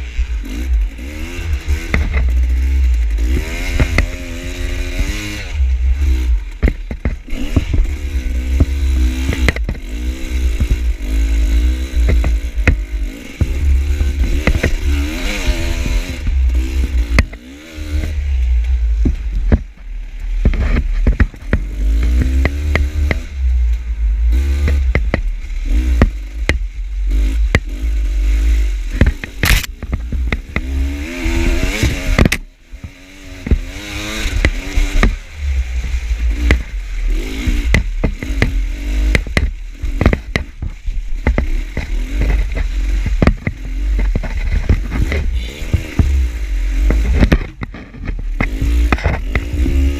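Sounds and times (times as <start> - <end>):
dirt bike engine revving: 0.0 - 49.9
sharp knocks and clatter: 0.8 - 5.4, 6.0 - 49.9.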